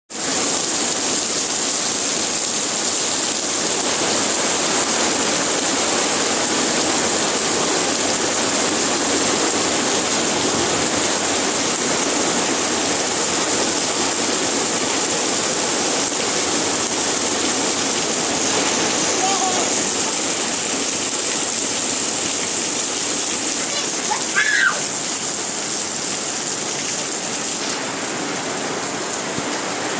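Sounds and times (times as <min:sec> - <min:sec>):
heavy rainfall: 0:00.1 - 0:29.9.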